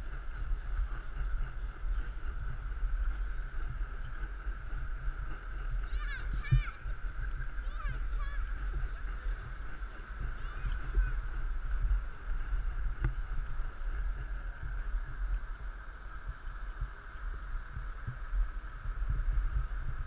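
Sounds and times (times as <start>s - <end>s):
steady hiss: 0.0s - 20.0s
wind buffeting microphone: 0.0s - 20.0s.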